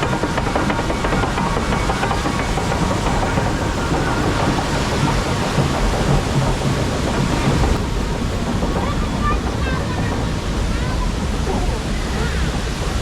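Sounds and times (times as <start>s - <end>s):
rushing water: 0.0s - 13.0s
steady low rumble: 0.8s - 13.0s.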